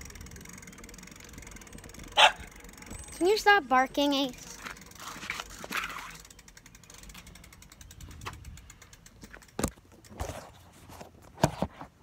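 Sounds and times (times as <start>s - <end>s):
bicycle freewheel ticking: 0.0s - 10.2s.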